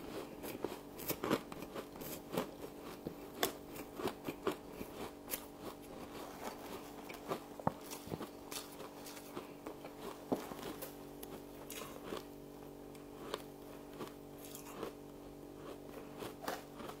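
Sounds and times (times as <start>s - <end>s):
crisp chewing crunches: 0.0s - 17.0s
steady low hum: 0.0s - 17.0s.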